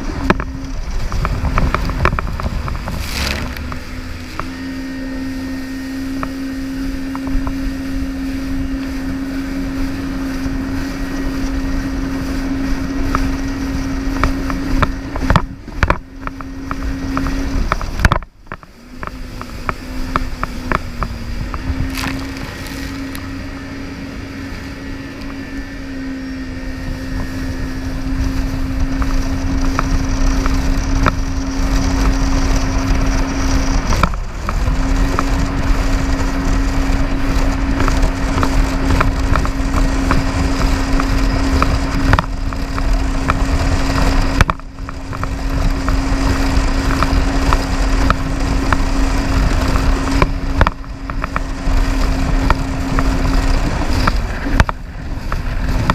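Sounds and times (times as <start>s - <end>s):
jet ski engine running: 0.0s - 55.9s.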